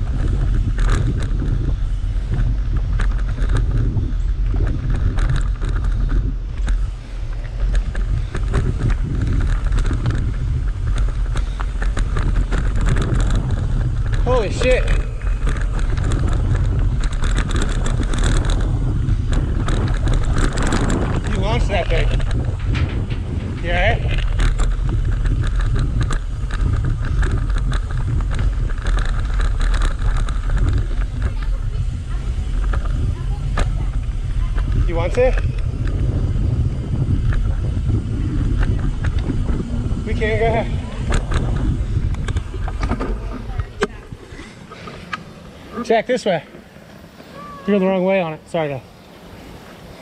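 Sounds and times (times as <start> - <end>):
bike rattling: 0.0 - 50.0
tyres rolling over stones: 0.0 - 50.0
wind buffeting microphone: 0.0 - 50.0.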